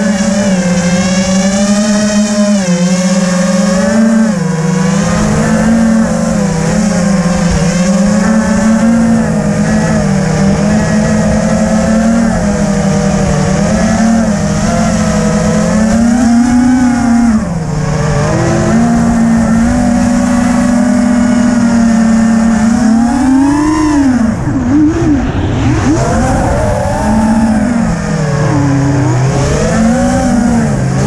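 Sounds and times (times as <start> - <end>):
drone motors whining: 0.0 - 31.0
low rumbling wind noise: 0.0 - 31.0.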